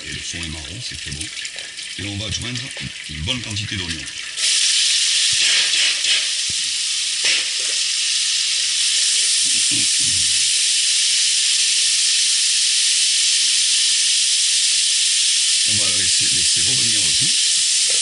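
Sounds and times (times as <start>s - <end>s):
onions sizzling in hot fat: 0.0s - 18.0s.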